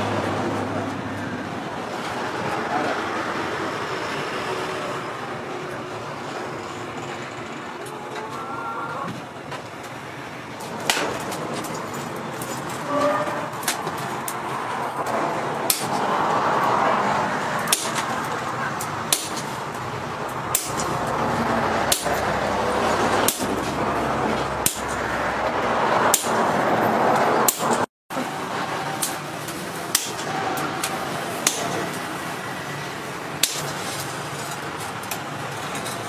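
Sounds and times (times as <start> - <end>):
steady background noise: 0.0 - 36.0.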